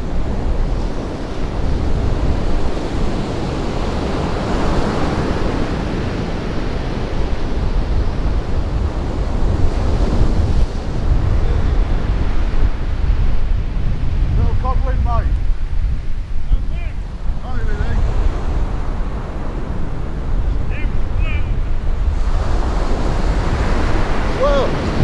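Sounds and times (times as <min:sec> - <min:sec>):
surf washing onto beach: 0:00.0 - 0:25.0
wind buffeting microphone: 0:00.0 - 0:25.0.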